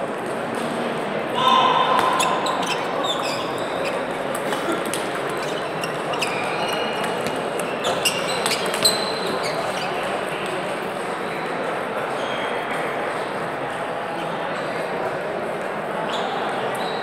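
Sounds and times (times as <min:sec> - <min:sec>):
murmur of sports hall: 0:00.0 - 0:17.0.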